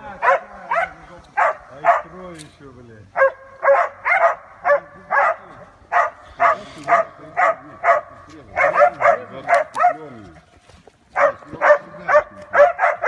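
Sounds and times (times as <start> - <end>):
hunting dogs barking: 0.1 - 2.3, 3.1 - 10.2, 11.1 - 13.0.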